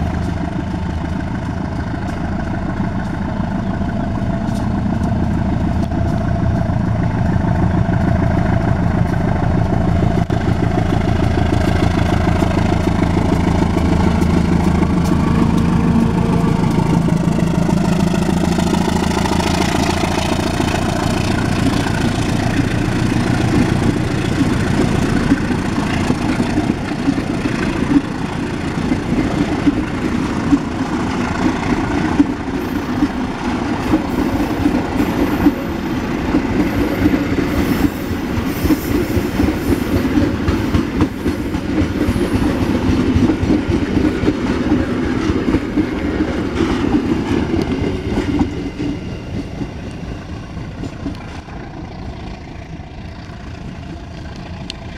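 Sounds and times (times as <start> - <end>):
diesel locomotive engine running: 0.0 - 54.9
train wheels clattering: 0.0 - 54.9.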